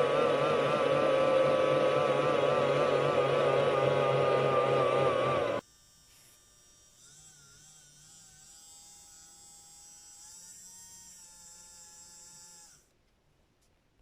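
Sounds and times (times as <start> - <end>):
small electric motor whirring: 0.0 - 12.9.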